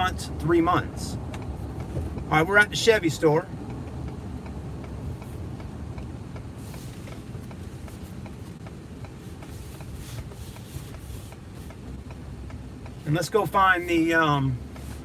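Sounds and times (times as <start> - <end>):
diesel truck cab rumble: 0.0 - 15.0
faint even ticking: 0.4 - 14.9.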